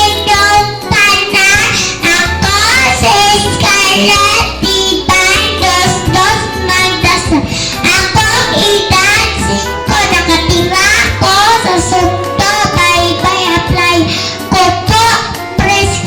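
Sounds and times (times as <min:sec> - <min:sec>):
sustained bass notes: 0:00.0 - 0:16.0.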